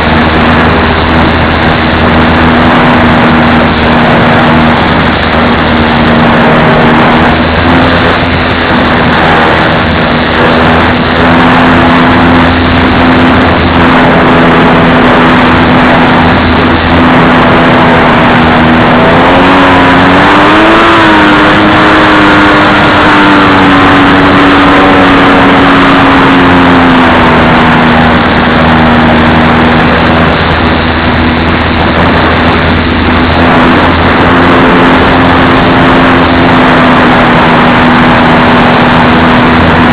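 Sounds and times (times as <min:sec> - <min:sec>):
model plane motor droning: 0:00.0 - 0:39.9.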